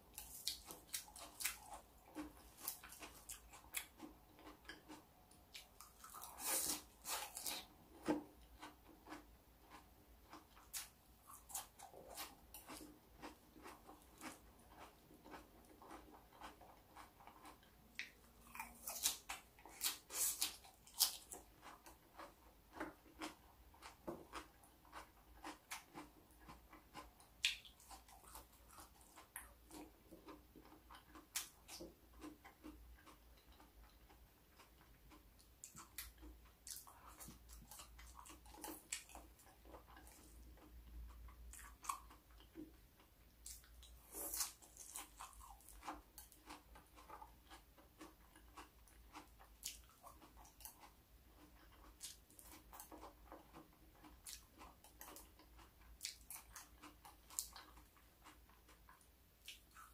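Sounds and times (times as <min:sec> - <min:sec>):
person crunching raw vegetables: 0:00.1 - 0:33.7, 0:34.6 - 0:42.6, 0:43.4 - 0:59.9.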